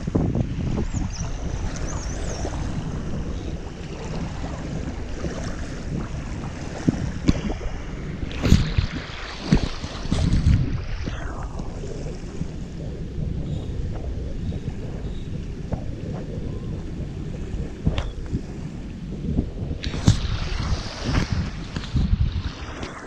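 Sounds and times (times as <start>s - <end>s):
sea waves: 0.0s - 23.0s
wind buffeting microphone: 0.0s - 23.0s.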